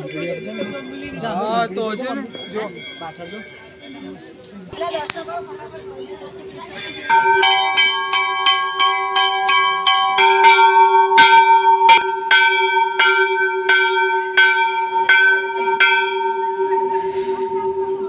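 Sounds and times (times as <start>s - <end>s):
brass bells struck and ringing: 0.0s - 4.3s, 6.5s - 18.0s.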